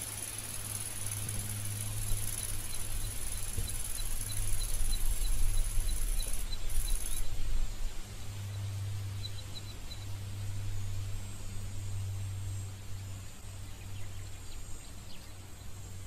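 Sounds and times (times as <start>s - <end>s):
insect chirps: 0.0s - 16.0s
insects buzzing: 0.0s - 16.0s.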